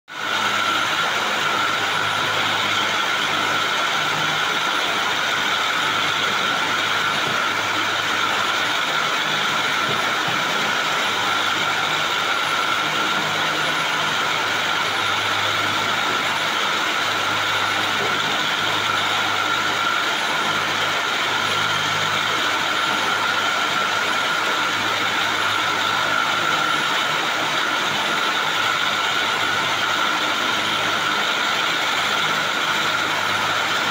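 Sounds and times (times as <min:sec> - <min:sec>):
spinning machine hum: 0:00.1 - 0:33.9.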